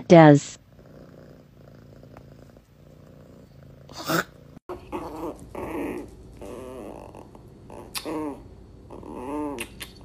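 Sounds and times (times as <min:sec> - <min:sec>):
faint steady purr: 0:00.0 - 0:10.0
puppy growling: 0:00.0 - 0:10.0.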